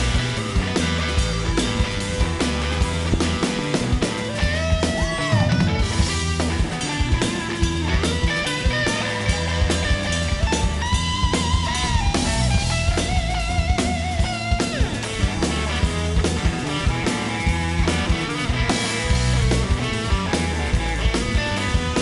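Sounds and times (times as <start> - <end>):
blues-rock band playing: 0.0 - 22.0
electric guitar with vibrato: 0.0 - 22.0.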